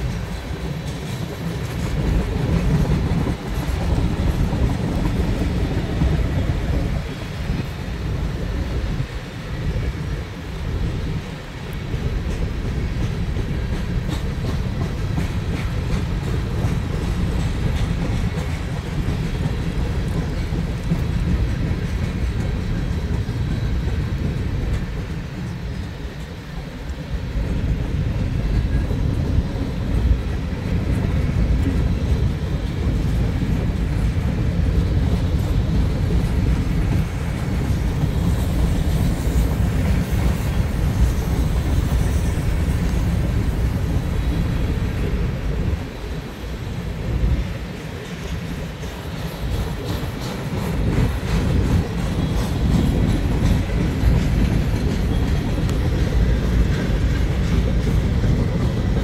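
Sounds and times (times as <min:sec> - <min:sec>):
freight cars rumbling on rails: 0:00.0 - 0:59.0
wheels clickety-clack: 0:00.0 - 0:59.0.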